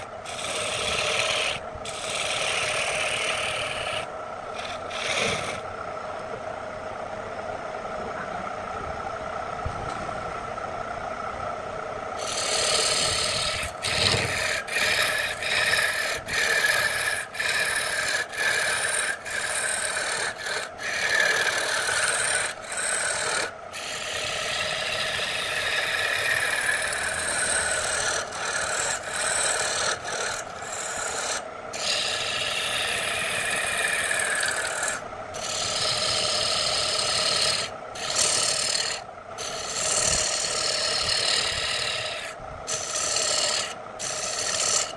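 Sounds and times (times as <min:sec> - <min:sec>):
lathe tool scraping wood: 0:00.0 - 0:05.6, 0:12.2 - 0:44.9
lathe motor hum: 0:00.0 - 0:08.2, 0:11.9 - 0:44.9.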